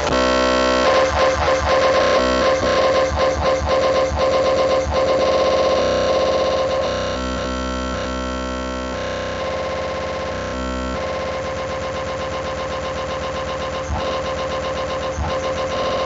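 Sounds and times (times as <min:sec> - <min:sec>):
noisy synthesizer chords: 0:00.0 - 0:16.0.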